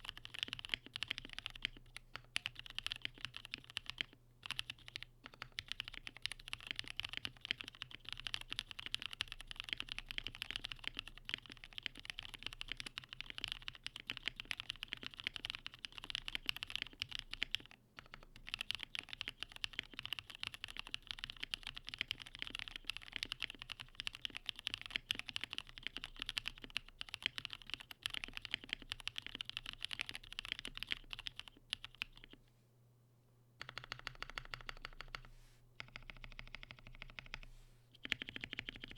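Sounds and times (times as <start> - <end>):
typing on mechanical keyboard: 0.0 - 32.4, 33.6 - 38.9.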